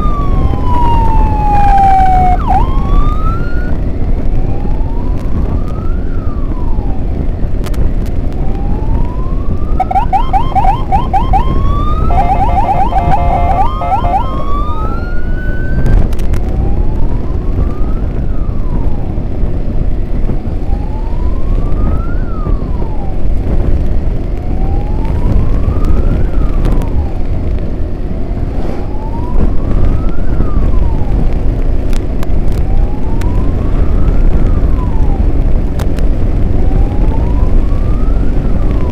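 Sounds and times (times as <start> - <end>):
emergency siren wailing: 0.0 - 7.6, 8.2 - 31.7, 32.4 - 38.9
low rumble: 0.0 - 38.9.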